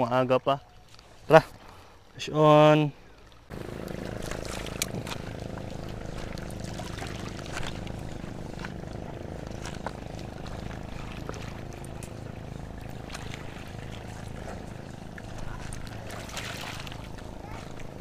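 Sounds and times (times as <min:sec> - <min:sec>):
boat engine running: 0:03.2 - 0:18.0.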